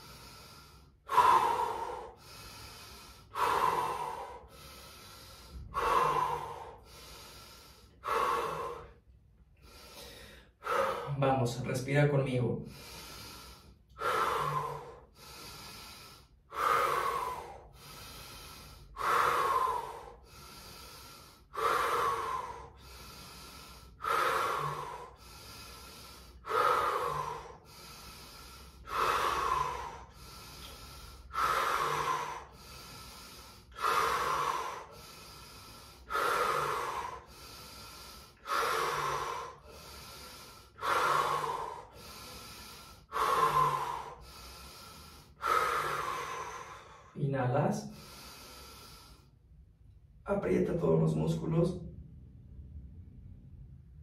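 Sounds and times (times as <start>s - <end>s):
person breathing deeply: 0.0s - 50.2s.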